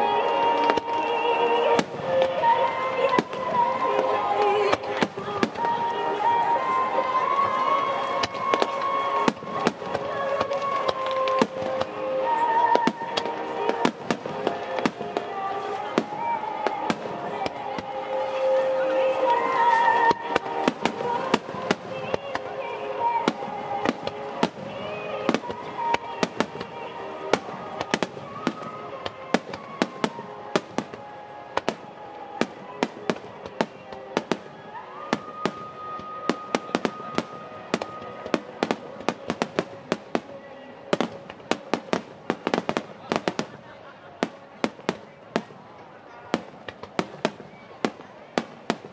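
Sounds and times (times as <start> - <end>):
faint music: 0.0 - 48.9
faint voices: 0.0 - 48.9
firework bangs and crackles: 0.0 - 48.9.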